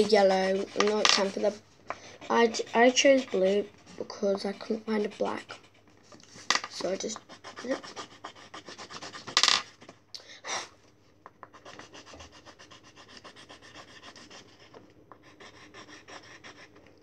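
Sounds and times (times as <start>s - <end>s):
pen scribbling on paper: 0.0s - 9.9s, 11.5s - 16.8s.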